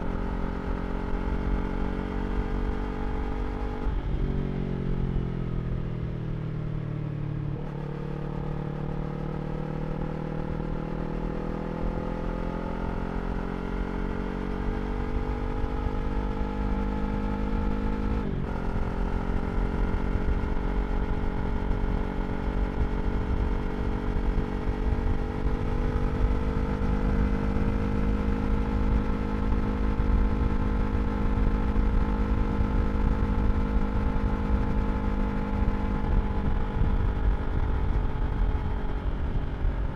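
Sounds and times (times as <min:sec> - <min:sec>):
motorcycle engine revving: 0:07.6 - 0:39.9.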